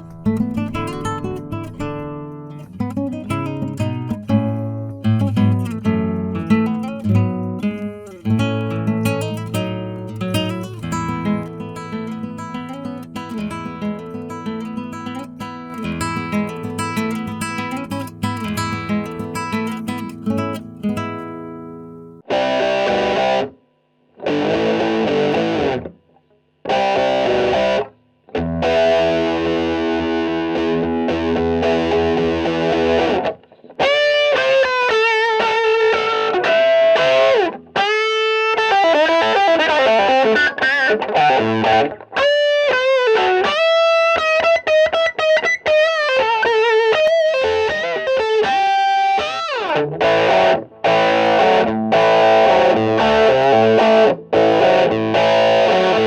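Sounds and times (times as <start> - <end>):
distorted electric guitar lead: 0.0 - 14.1, 20.4 - 56.0
guitar chords ringing: 0.0 - 56.0.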